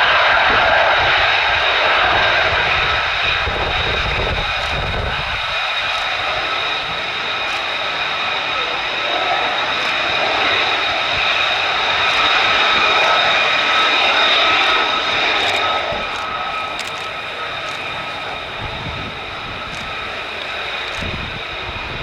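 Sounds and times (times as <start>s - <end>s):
jet engine whine: 0.0s - 22.0s.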